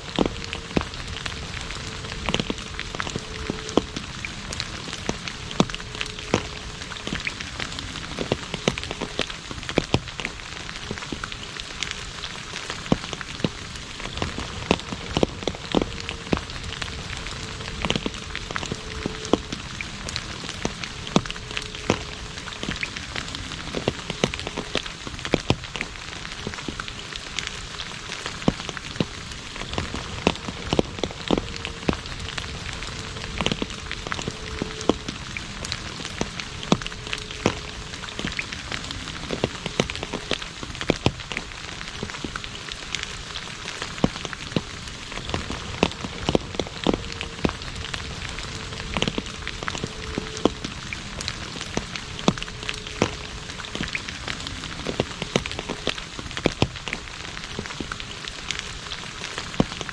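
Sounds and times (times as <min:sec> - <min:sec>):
rain hissing on asphalt: 0:00.0 - 0:59.9
raindrops splatting: 0:00.0 - 0:59.9.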